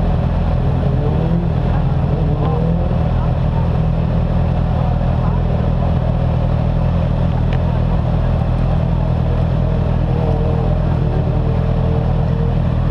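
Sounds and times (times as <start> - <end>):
motorcycle engine idling close: 0.0 - 12.9
other motorcycles idling: 1.5 - 12.9.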